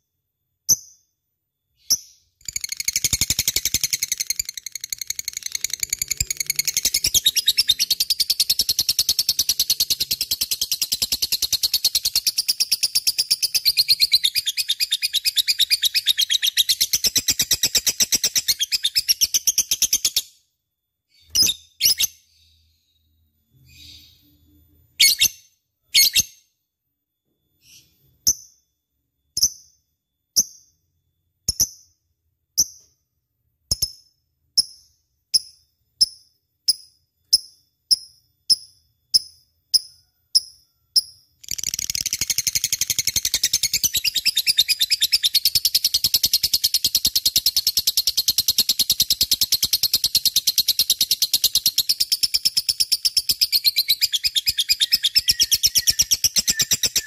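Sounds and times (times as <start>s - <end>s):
lovebird chirping: 0.6s - 20.4s, 21.1s - 26.6s, 27.2s - 33.0s, 33.6s - 57.0s.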